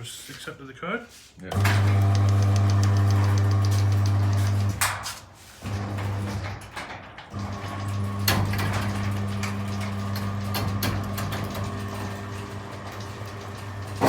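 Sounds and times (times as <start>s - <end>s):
door opener motor humming: 1.5s - 4.8s, 5.6s - 14.0s.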